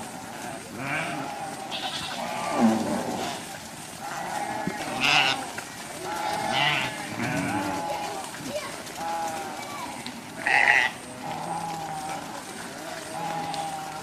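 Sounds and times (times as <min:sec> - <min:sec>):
cattle lowing: 0:00.0 - 0:09.8, 0:10.4 - 0:14.0.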